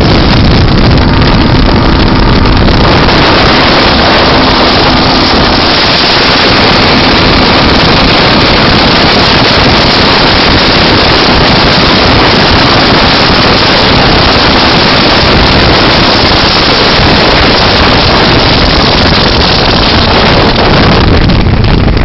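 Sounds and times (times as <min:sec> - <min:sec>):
motorboat engine at speed: 0:00.0 - 0:22.0
wind buffeting microphone: 0:00.0 - 0:22.0.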